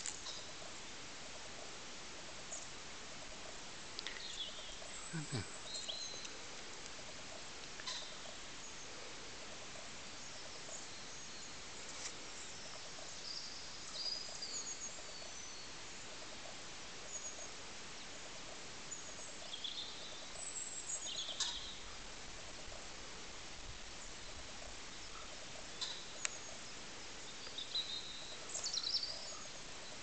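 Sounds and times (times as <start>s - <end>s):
outdoor hiss: 0.0s - 30.0s.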